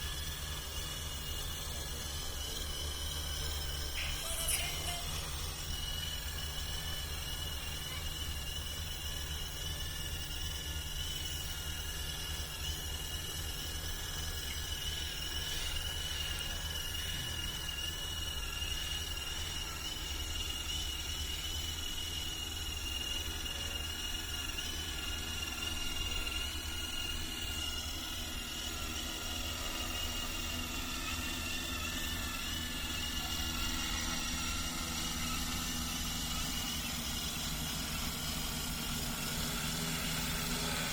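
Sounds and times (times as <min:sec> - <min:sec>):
drone motors and propellers: 0:00.0 - 0:40.9.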